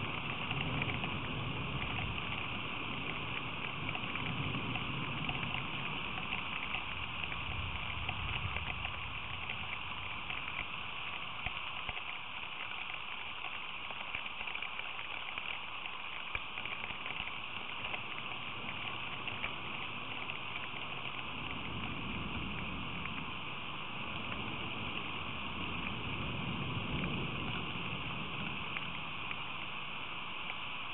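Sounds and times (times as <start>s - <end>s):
steady rain with drop ticks: 0.0s - 30.9s.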